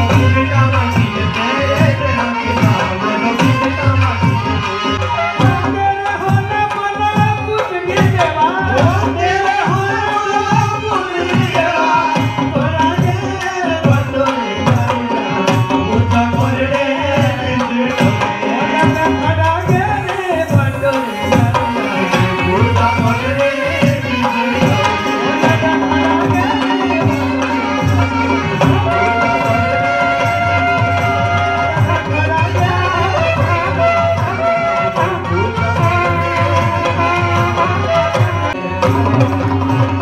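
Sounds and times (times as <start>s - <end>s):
drum beat: 0.0s - 40.0s
pitch-bending folk melody: 0.0s - 40.0s.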